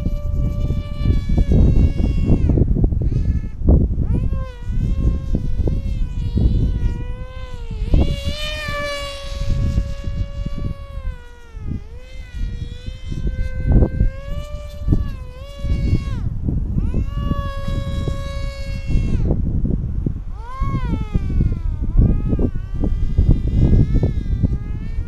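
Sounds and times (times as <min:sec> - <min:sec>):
model aircraft motor buzzing: 0:00.0 - 0:25.0
wind buffeting microphone: 0:00.0 - 0:25.0.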